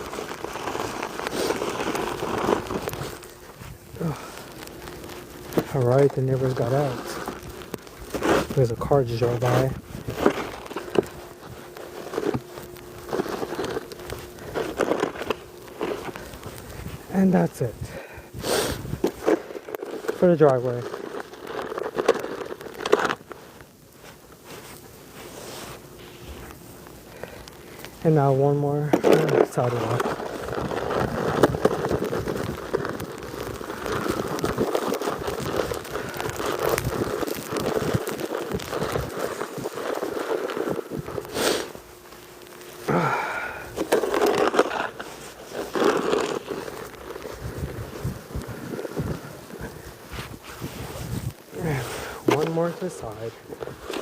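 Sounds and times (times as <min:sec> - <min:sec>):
snow crunching and scraping: 0:00.0 - 0:54.0.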